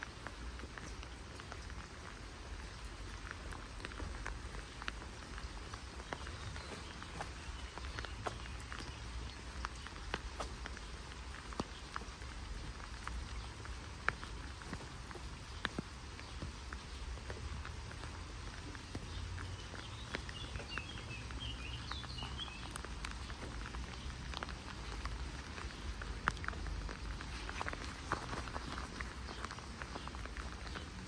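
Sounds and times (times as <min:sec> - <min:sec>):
light rain pattering: 0:00.0 - 0:31.0
raindrop ticks: 0:00.0 - 0:31.0.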